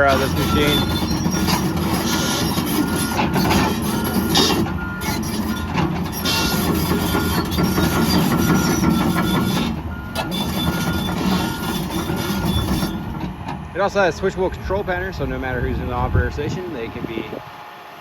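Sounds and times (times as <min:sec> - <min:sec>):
excavator diesel engine whining: 0:00.0 - 0:18.0.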